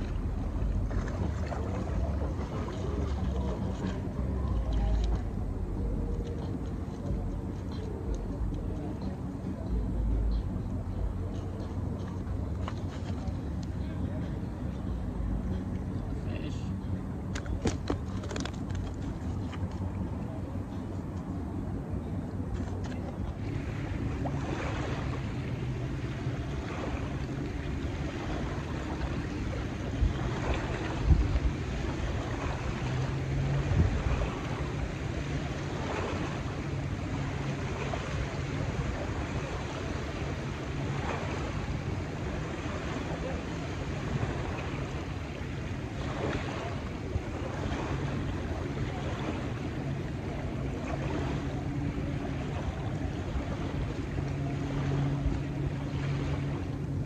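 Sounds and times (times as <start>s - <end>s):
low outdoor rumble: 0.0s - 57.0s
low steady hum: 0.0s - 57.0s
waves lapping on shore: 0.0s - 57.0s.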